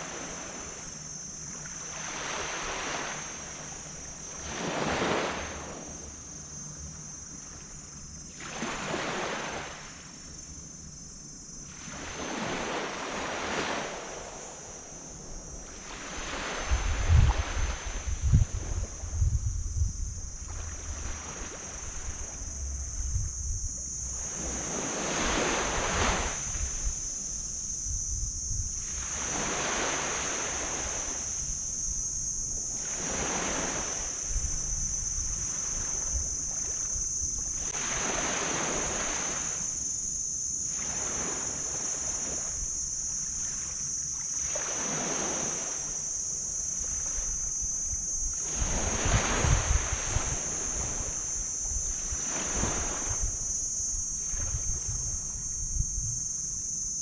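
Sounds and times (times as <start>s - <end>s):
small waves washing onto sand: 0.0s - 6.0s, 7.4s - 10.2s, 11.7s - 19.1s, 20.2s - 22.6s, 23.4s - 27.3s, 28.7s - 31.8s, 32.6s - 39.9s, 40.7s - 55.5s
high-pitched hiss: 0.0s - 57.0s
wind rumble on microphone: 0.0s - 57.0s.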